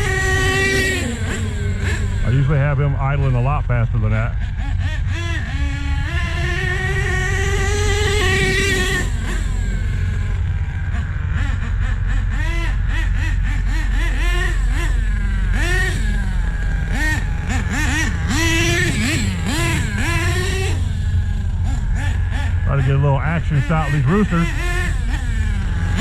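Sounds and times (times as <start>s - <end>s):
rc truck engine revving: 0.0s - 26.0s.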